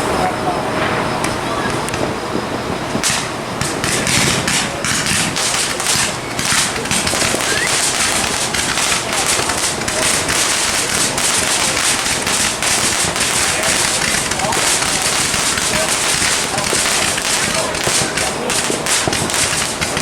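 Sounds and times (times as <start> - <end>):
fireworks crackling: 0.0 - 20.0
people talking: 0.0 - 20.0.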